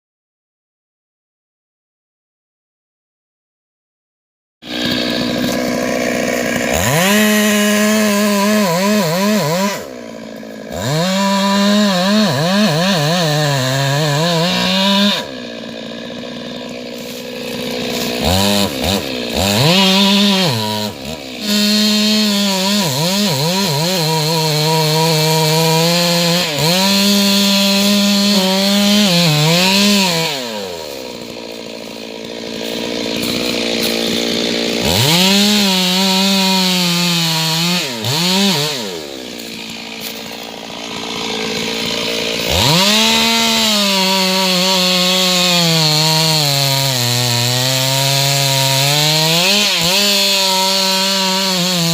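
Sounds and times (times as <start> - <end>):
chainsaw cutting wood: 4.6 - 51.9.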